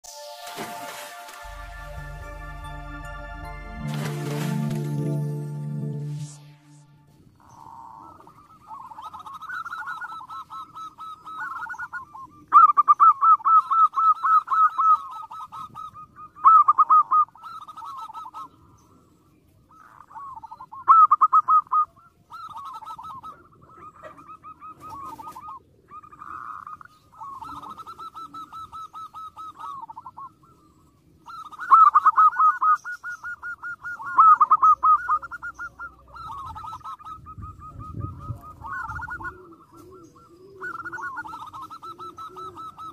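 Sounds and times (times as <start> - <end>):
dove cooing: 7.4 - 19.0, 19.7 - 42.9.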